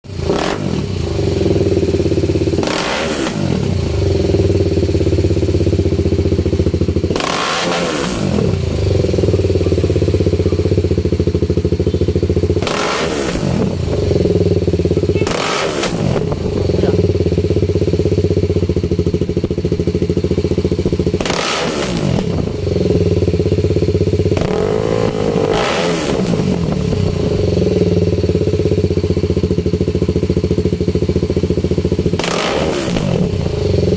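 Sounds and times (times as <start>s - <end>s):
motorcycle engine idling: 0.1s - 33.9s
motorcycle throttle revving: 0.1s - 33.9s.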